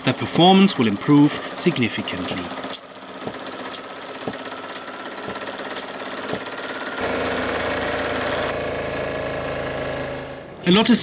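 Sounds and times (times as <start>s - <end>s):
stirling engine running: 0.0s - 11.0s.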